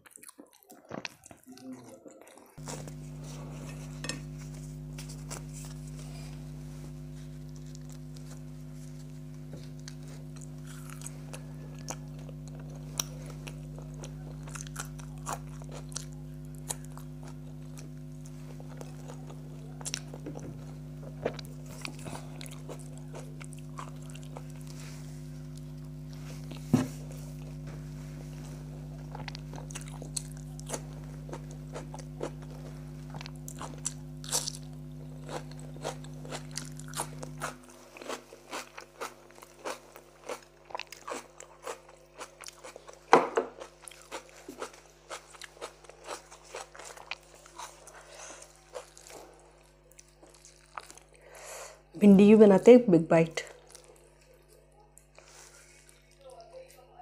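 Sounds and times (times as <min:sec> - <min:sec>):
biting and chewing food: 0:00.0 - 0:51.3, 0:53.4 - 0:56.9
steady low hum: 0:02.6 - 0:54.4.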